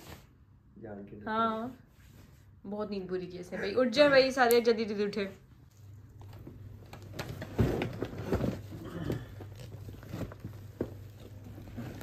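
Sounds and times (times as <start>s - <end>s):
low steady hum: 0.6s - 12.0s.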